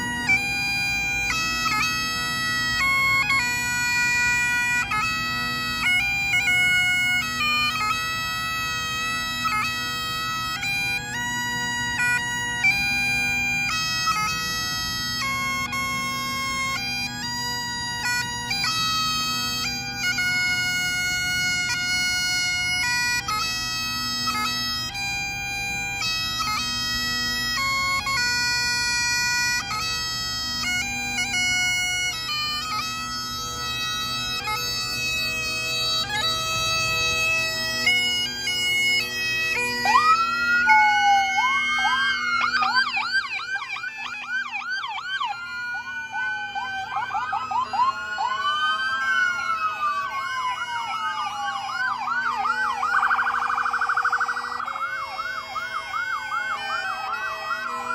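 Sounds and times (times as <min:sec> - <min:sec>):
bagpipes playing slow tune: 0:00.0 - 0:57.9
police sirens wailing and yelping: 0:00.0 - 0:57.9.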